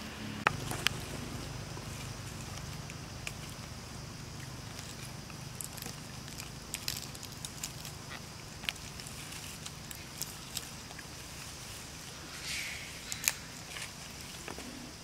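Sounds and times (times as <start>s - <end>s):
low background hum: 0.0s - 15.0s
dry leaves crackling: 0.5s - 15.0s.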